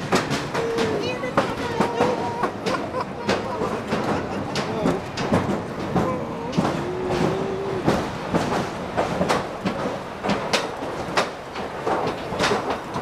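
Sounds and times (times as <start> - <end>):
railway car rattling on track: 0.0 - 13.0
sharp clacks: 0.0 - 13.0.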